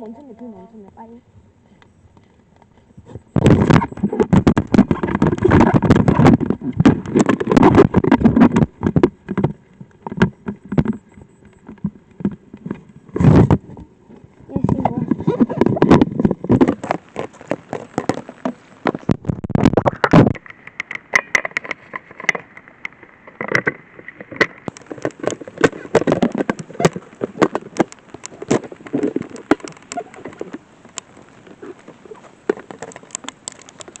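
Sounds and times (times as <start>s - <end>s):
raindrops tapping microphone: 3.1s - 34.0s.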